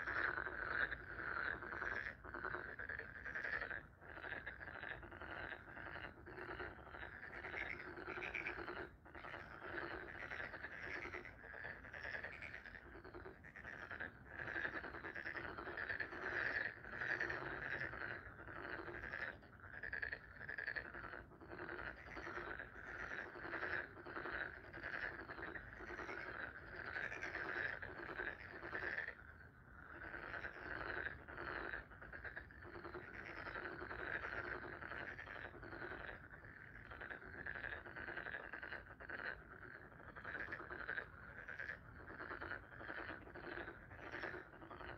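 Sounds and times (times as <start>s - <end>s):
frogs croaking: 0.0s - 44.9s.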